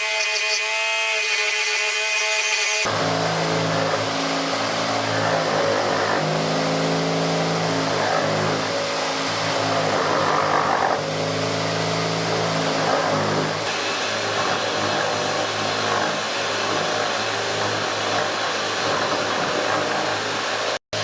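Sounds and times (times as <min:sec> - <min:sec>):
power tool motor humming: 0:00.0 - 0:20.7.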